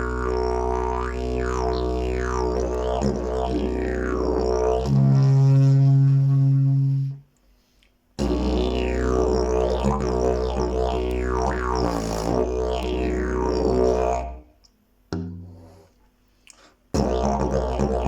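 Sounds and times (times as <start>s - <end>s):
didgeridoo droning: 0.0s - 7.2s, 8.2s - 14.5s, 16.9s - 18.0s.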